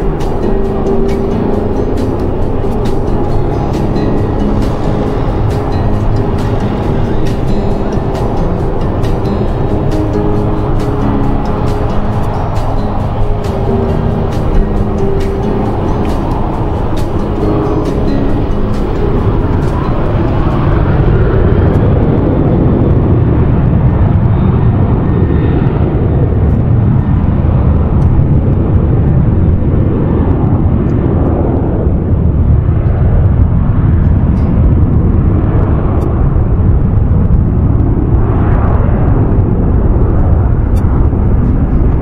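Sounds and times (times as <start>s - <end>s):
jet engines at takeoff thrust: 0.0s - 42.0s.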